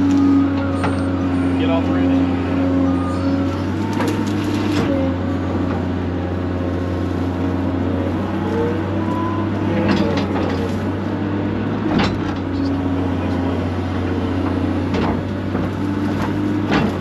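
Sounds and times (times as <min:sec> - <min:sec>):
diesel engine under load: 0:00.0 - 0:17.0
hydraulic whine: 0:00.0 - 0:17.0.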